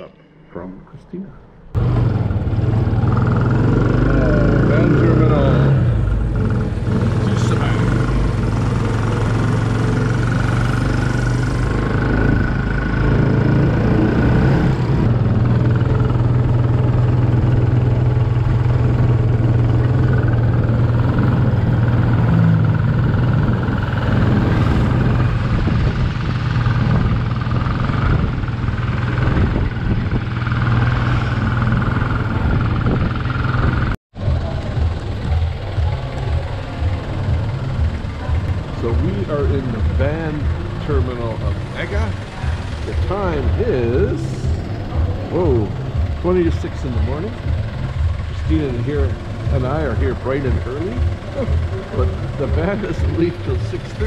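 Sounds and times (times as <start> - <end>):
motorcycle engine running: 1.8 - 54.0.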